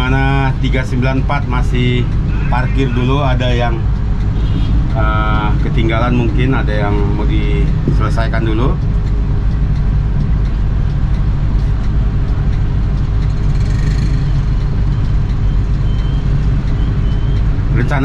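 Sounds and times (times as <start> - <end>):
diesel bus engine idling: 0.0 - 18.0.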